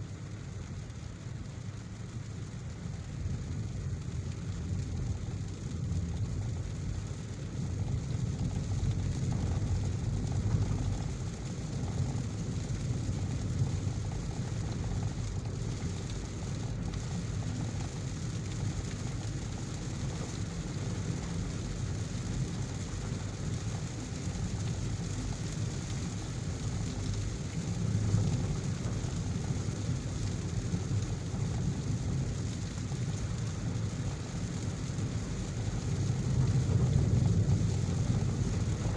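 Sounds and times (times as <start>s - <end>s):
car engine and tyres rumbling: 0.0s - 38.9s
rain hissing on wet road: 0.0s - 38.9s.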